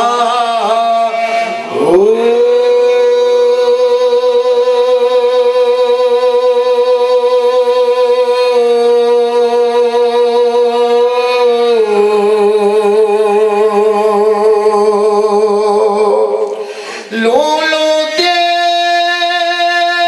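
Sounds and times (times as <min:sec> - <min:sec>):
man singing long held note: 0:00.0 - 0:20.0.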